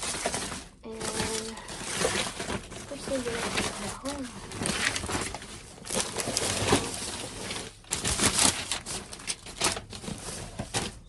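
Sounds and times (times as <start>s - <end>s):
trash rustling and clattering: 0.0s - 11.0s.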